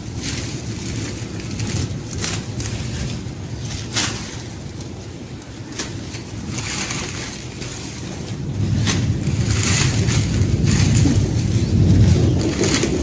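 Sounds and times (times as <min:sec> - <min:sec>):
dry leaves rustling and crackling: 0:00.0 - 0:13.0
wind rumble on microphone: 0:00.0 - 0:13.0.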